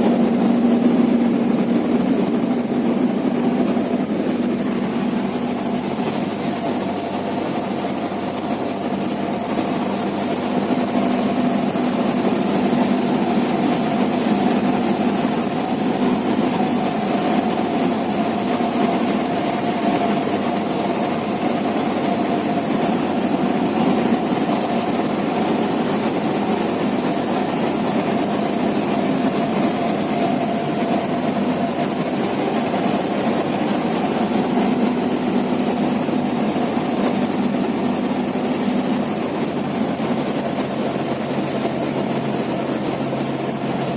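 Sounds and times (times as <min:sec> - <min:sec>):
propeller plane engine drone: 0:00.0 - 0:43.9.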